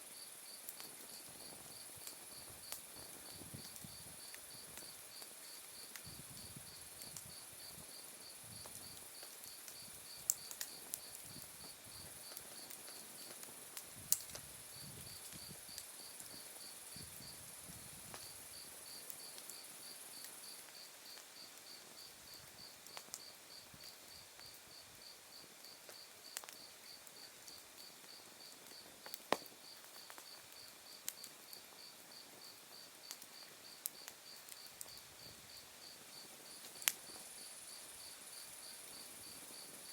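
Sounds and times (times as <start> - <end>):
wood fire popping: 0.6 - 37.6.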